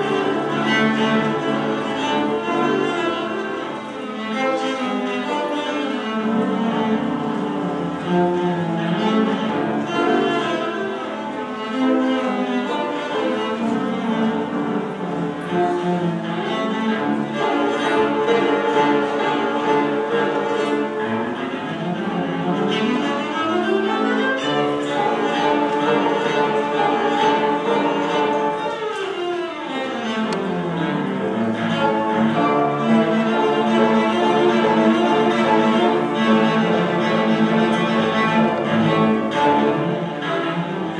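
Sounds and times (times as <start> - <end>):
bowed cello melody: 0.0 - 40.9.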